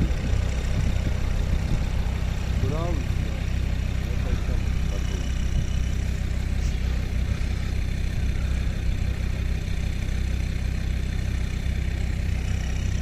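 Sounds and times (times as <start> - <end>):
suv engine running at low revs: 0.0 - 13.0.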